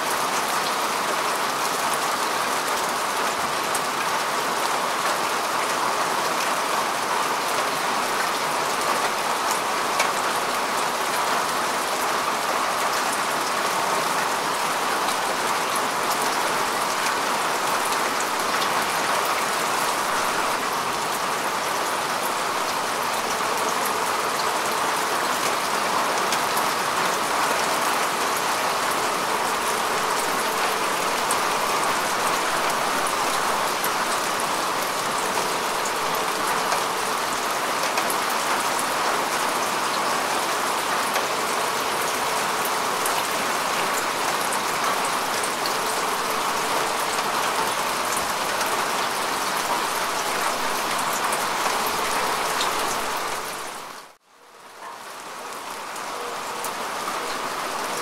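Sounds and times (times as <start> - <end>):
rain falling on grass: 0.0 - 58.0.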